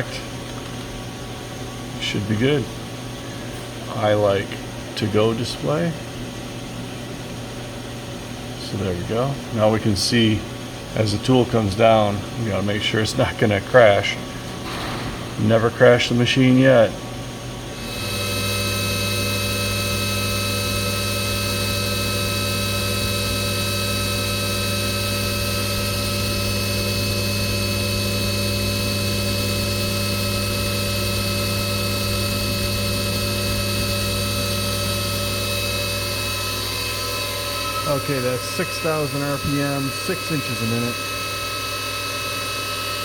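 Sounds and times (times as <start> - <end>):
milling machine spindle whining: 8.1 - 43.0.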